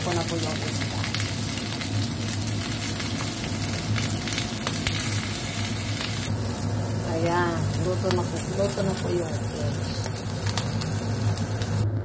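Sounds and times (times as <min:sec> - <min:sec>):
fish sizzling in oil: 0:00.0 - 0:11.8.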